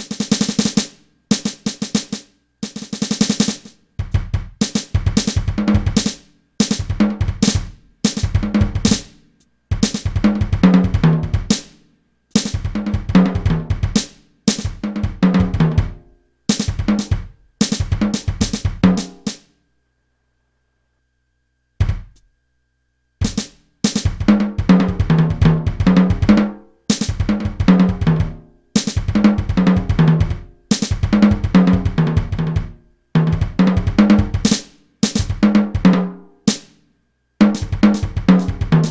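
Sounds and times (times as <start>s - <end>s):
drum kit playing: 0.0s - 19.4s, 21.8s - 22.2s, 23.2s - 36.7s, 37.4s - 38.9s.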